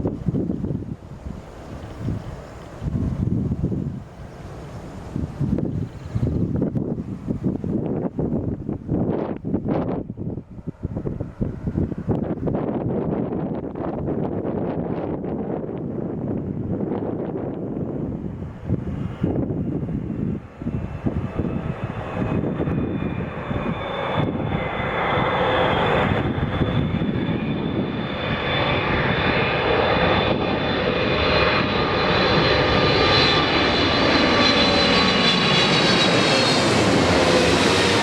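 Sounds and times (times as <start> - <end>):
jet engines with high whine: 0.0 - 38.0.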